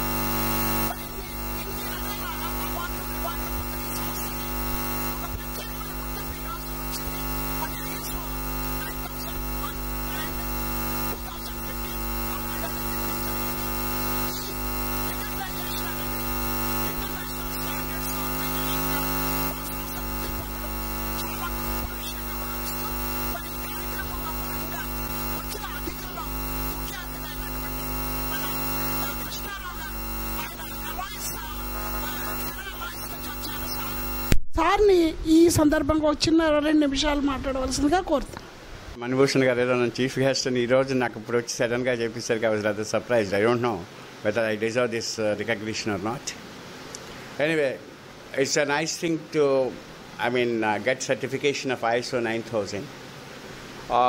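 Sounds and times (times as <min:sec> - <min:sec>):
background hiss: 0:00.0 - 0:54.0
electrical mains hum: 0:00.0 - 0:54.0.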